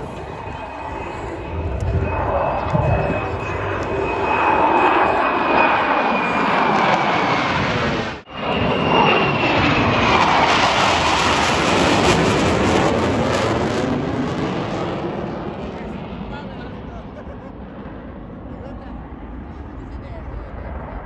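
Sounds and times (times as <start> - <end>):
jet aircraft passing overhead: 0.0 - 21.0.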